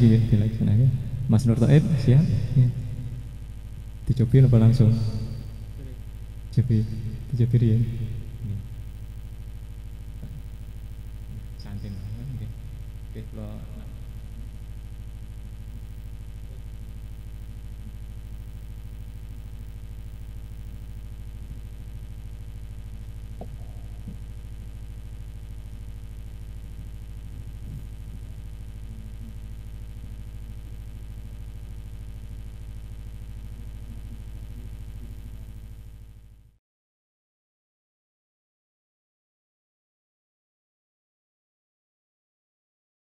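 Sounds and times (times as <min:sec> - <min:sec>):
electrical mains hum: 0:00.0 - 0:36.6.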